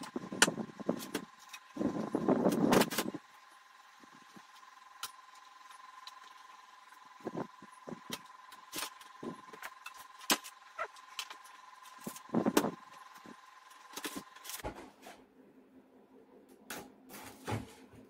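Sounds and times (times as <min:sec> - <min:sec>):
faint high whine: 0:00.0 - 0:14.6.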